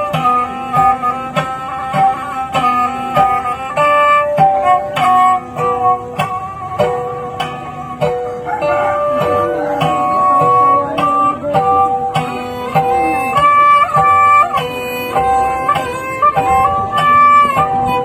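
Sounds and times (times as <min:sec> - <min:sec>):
bowed fiddle sliding notes: 0:00.0 - 0:18.0
plucked zither notes: 0:00.0 - 0:18.0.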